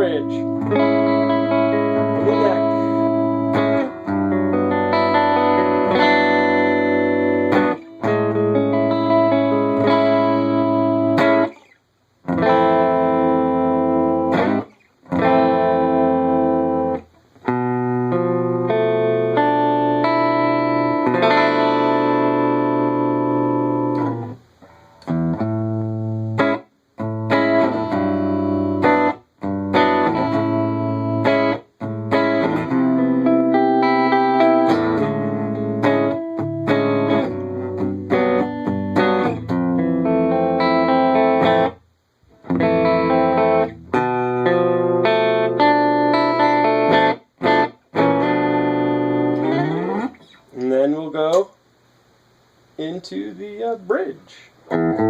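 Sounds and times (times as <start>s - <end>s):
jazzy electric guitar: 0.0s - 51.5s, 54.3s - 55.0s.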